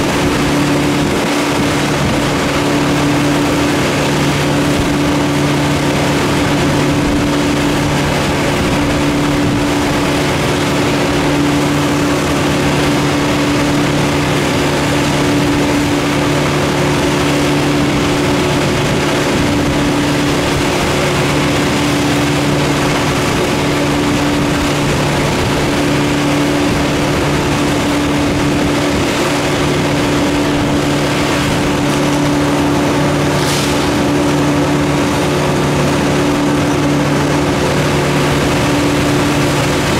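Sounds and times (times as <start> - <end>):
engine running at high speed: 0.0 - 39.9.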